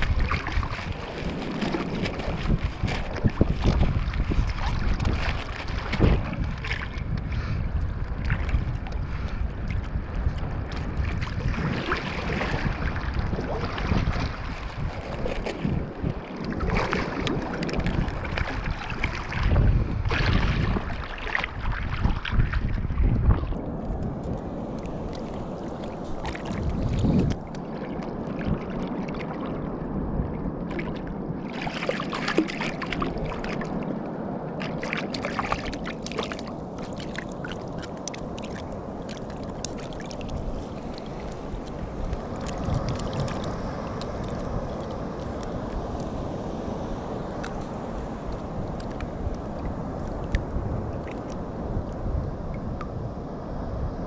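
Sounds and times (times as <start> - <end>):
water sloshing and splashing: 0.0 - 53.0
wind on microphone: 0.0 - 54.0.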